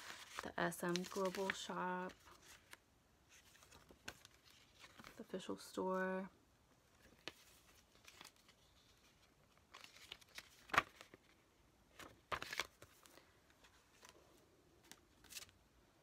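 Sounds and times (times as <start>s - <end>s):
paper leaflet rustling: 0.0s - 5.3s, 7.0s - 14.2s, 14.8s - 15.6s.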